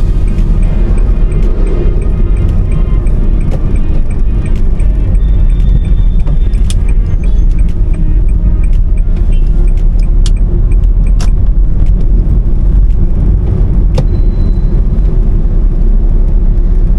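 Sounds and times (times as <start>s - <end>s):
sharp clicks and rattles: 0.0s - 15.4s
car engine and road noise: 0.0s - 16.9s.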